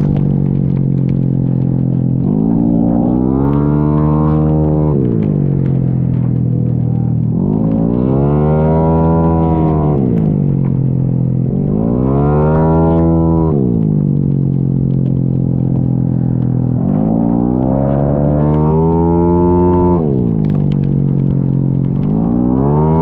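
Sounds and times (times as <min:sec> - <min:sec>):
scooter engine revving: 0:00.0 - 0:23.0.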